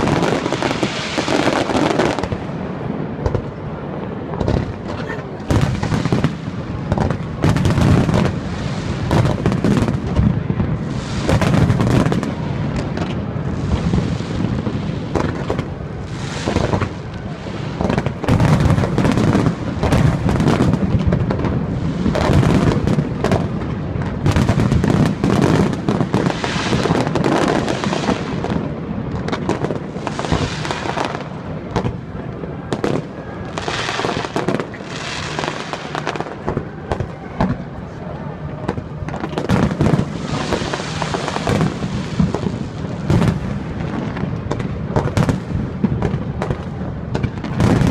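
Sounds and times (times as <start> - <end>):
fireworks bursts and booms: 0.0 - 47.9
fireworks crackling: 0.0 - 47.9.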